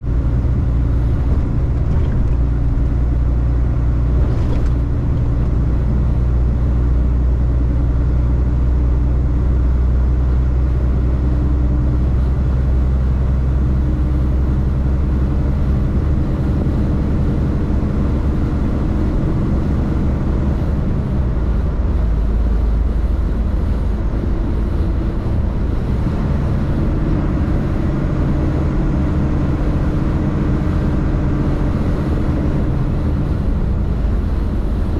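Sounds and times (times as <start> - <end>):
road noise: 0.0 - 34.9
truck diesel engine running: 0.0 - 34.9.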